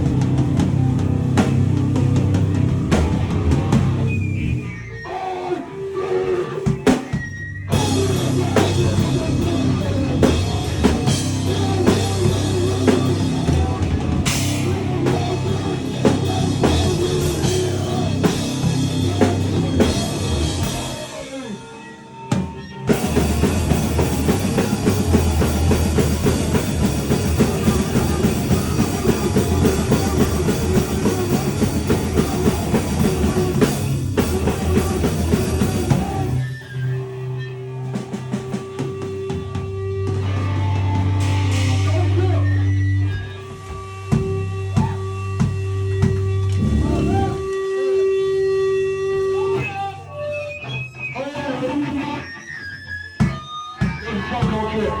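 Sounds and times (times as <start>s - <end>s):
pounding drum kit: 0.0s - 4.1s, 6.5s - 21.6s, 22.3s - 36.6s, 37.8s - 47.8s, 53.2s - 55.0s
band playing loud fast music: 0.0s - 5.0s, 6.3s - 55.0s.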